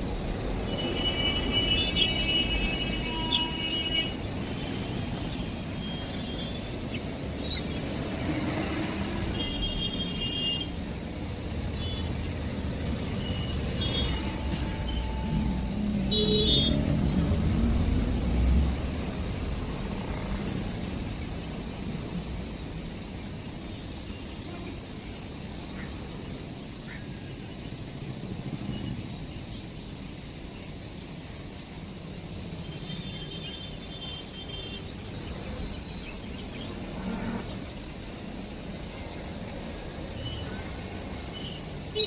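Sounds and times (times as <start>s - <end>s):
train rumble and hiss: 0.0s - 42.0s.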